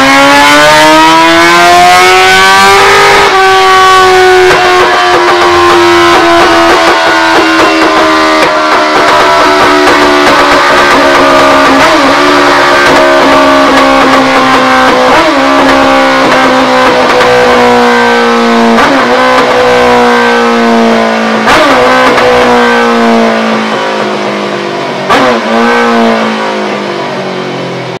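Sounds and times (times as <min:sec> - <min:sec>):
motorcycle engine running hard: 0:00.0 - 0:28.0.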